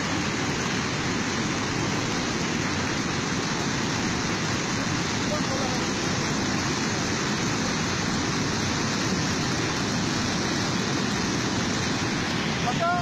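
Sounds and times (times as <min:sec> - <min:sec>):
floodwater torrent rushing: 0:00.0 - 0:13.0.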